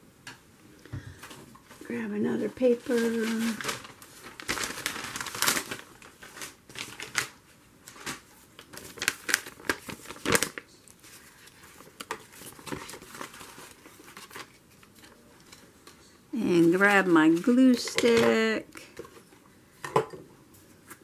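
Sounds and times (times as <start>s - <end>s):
paper rustling and crinkling: 1.2s - 19.4s.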